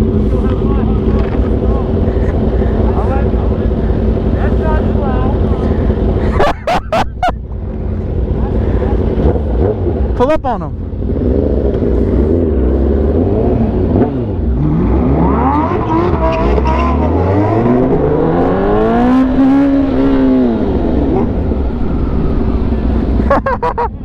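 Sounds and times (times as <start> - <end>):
engines accelerating: 0.0 - 24.0
low traffic rumble: 0.0 - 24.0.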